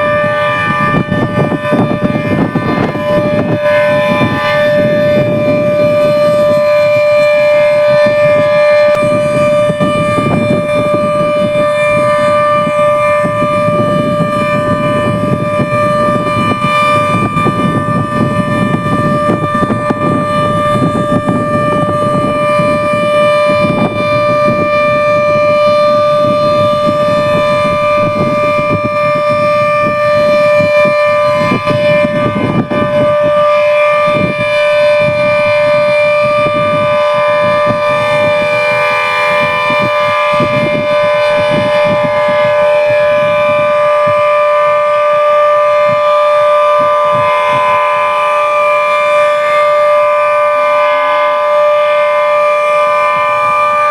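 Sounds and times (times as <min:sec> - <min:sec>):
low rumbling noise: 0:00.0 - 0:48.9
steady warning siren: 0:00.0 - 0:53.9.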